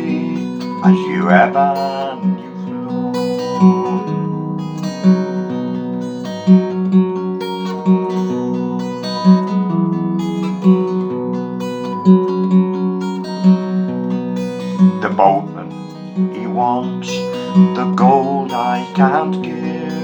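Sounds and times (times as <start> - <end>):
acoustic guitar picking: 0.0 - 20.0.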